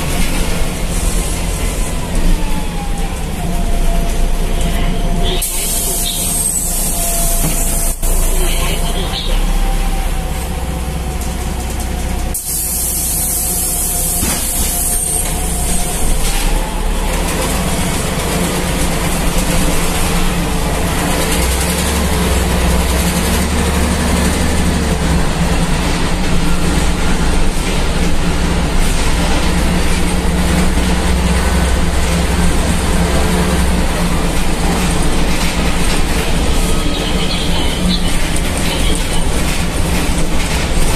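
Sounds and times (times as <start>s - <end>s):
diesel bus engine drone: 0.0s - 40.9s
road noise: 0.0s - 40.9s.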